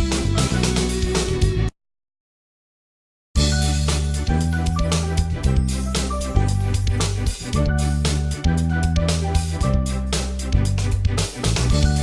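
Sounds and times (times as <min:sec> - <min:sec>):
background music: 0:00.0 - 0:01.7, 0:03.4 - 0:12.0.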